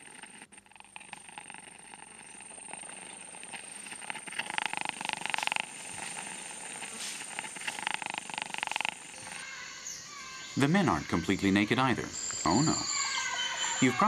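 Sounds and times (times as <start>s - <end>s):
pulsed buzzing animal call: 0.0s - 14.0s.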